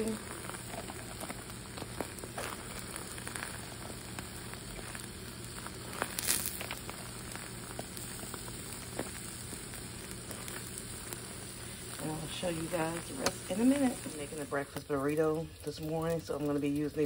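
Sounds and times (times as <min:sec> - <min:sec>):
eggs sizzling in a skillet: 0:00.0 - 0:17.0
pops and crackles: 0:00.0 - 0:17.0.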